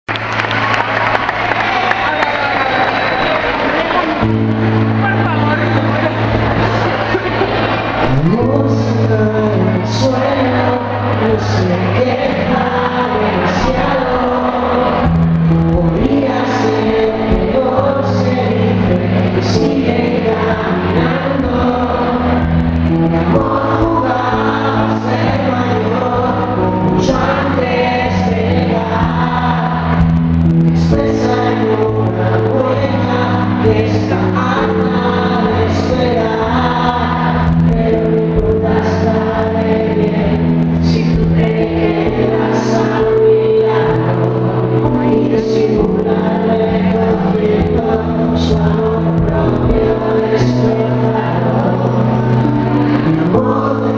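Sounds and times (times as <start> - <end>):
keyboard playing held chords: 0.1 - 53.9
man singing: 8.0 - 53.9.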